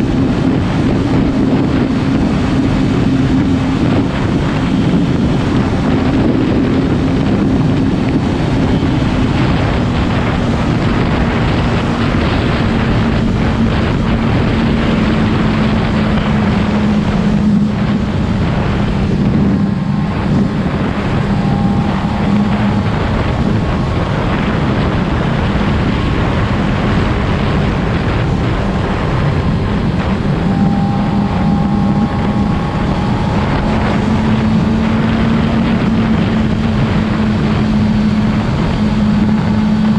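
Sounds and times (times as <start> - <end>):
motorcycle engine running: 0.0 - 39.9
wind over microphone: 0.0 - 39.9.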